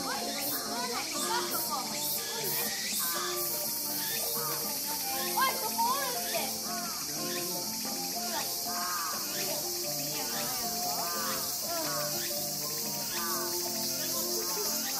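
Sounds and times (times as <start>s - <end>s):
distant voices: 0.0s - 14.9s
high insect chorus: 0.0s - 14.9s.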